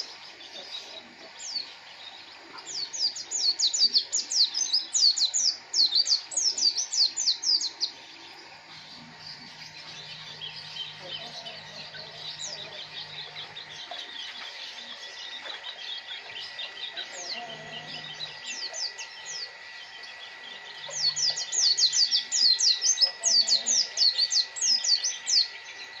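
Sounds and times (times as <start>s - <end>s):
small bird singing: 0.0s - 26.0s.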